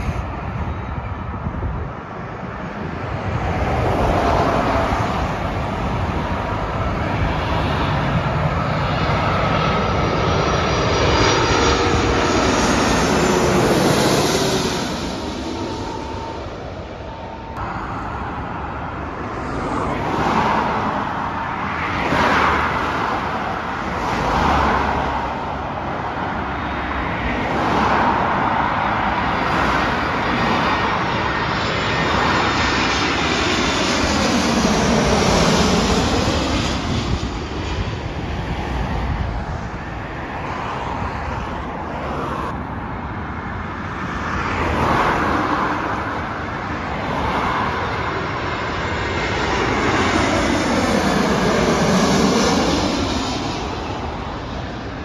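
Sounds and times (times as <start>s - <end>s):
cars passing: 0.0s - 55.0s
jet airliner passing overhead: 0.0s - 55.0s.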